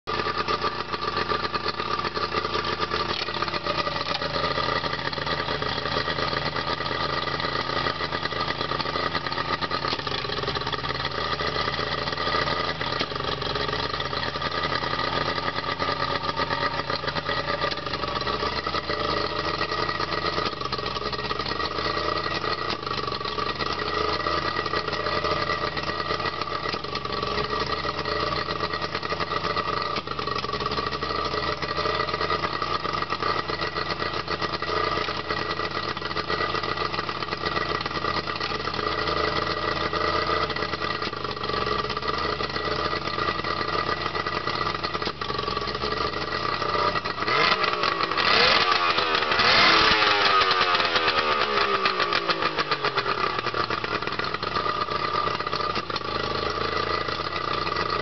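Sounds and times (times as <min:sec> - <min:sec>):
outboard motor idling: 0:00.0 - 0:58.0.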